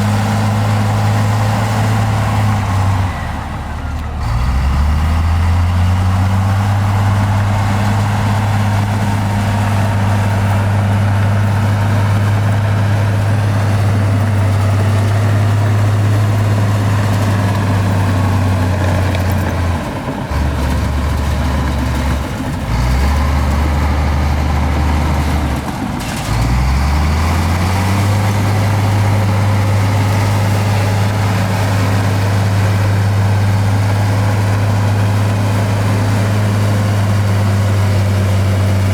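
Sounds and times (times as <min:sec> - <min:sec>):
diesel engine of earthmover: 0:00.0 - 0:38.9.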